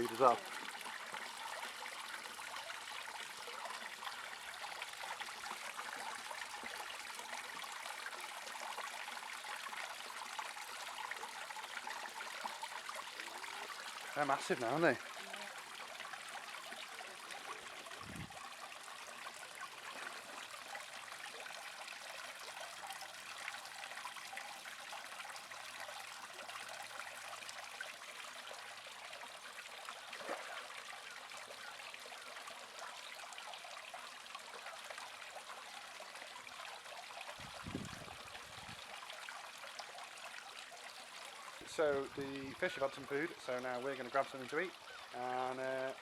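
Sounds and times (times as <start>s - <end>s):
water trickling into pond: 0.0s - 46.0s.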